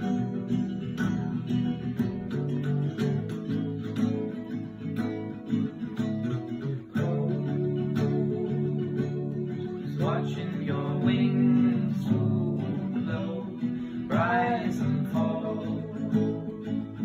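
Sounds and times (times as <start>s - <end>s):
acoustic guitar strummed and plucked: 0.0s - 17.0s.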